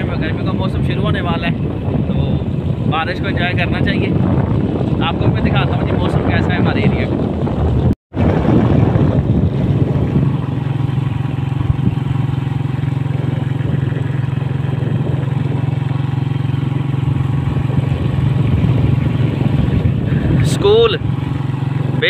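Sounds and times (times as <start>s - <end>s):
motorcycle engine running: 0.0s - 22.0s
road noise: 0.0s - 22.0s
wind rush: 0.0s - 22.0s.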